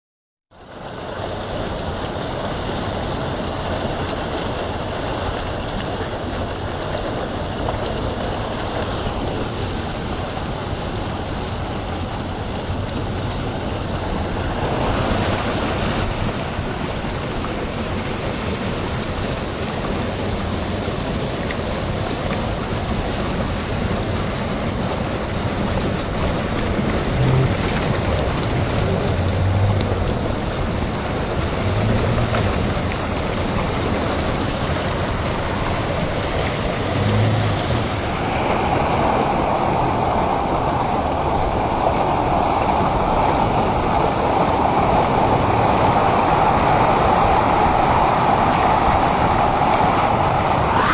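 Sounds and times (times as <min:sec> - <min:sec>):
river rushing over rocks: 0:00.6 - 0:50.9.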